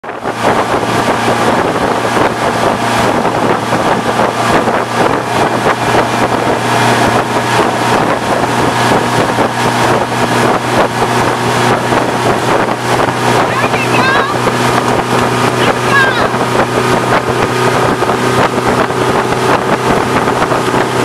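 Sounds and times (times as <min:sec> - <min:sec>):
motorboat engine humming: 0:00.0 - 0:21.0
wake churning: 0:00.0 - 0:21.0
wind buffeting microphone: 0:00.0 - 0:21.0.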